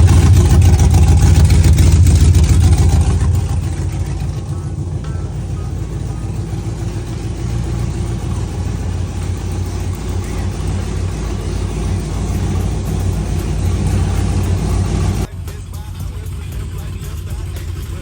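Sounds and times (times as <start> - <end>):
pickup engine running: 0.0 - 18.0.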